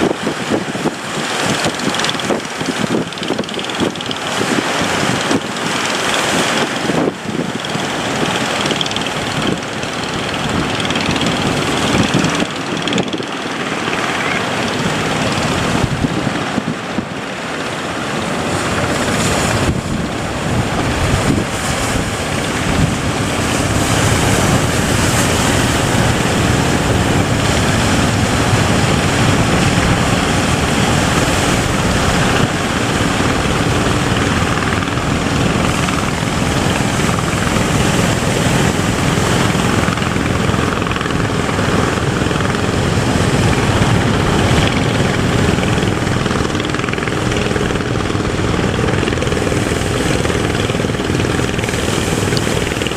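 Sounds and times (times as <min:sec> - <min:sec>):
boat engine running: 0:00.0 - 0:52.9
waves: 0:00.0 - 0:52.9.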